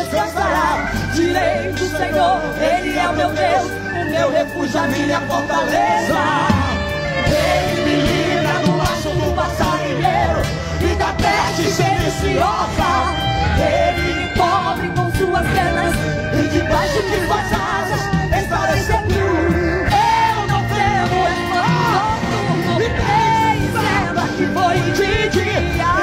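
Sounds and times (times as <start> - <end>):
instrumental accompaniment with beat: 0.0 - 26.0
man and woman singing duet: 0.0 - 26.0.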